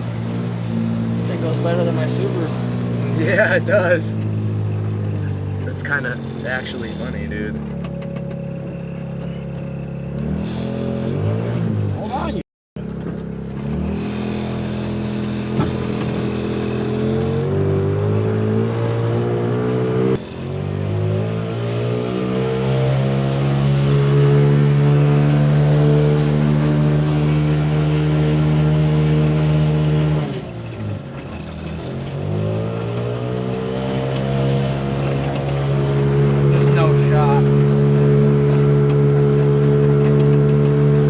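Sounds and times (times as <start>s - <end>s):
car engine revving through gears: 0.0s - 41.0s.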